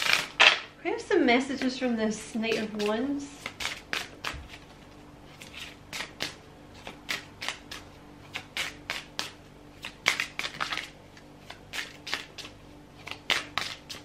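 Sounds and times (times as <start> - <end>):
cards being shuffled: 0.0 - 0.7, 2.5 - 14.0.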